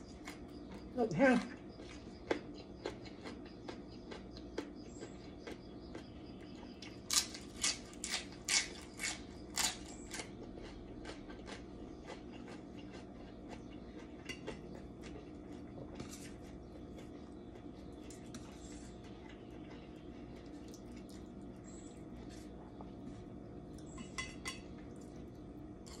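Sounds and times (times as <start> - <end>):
crunchy chewing of lettuce: 0.0 - 26.0.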